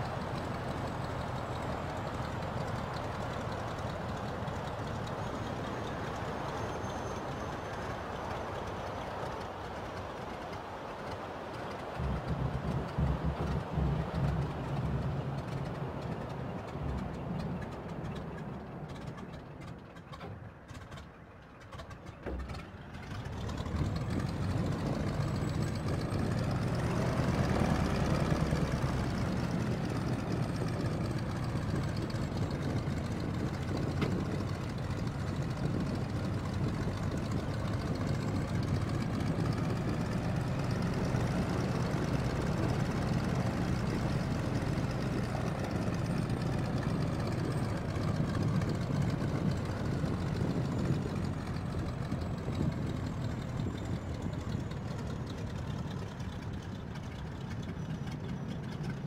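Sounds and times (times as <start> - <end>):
propeller aircraft engine running: 0.0 - 59.0.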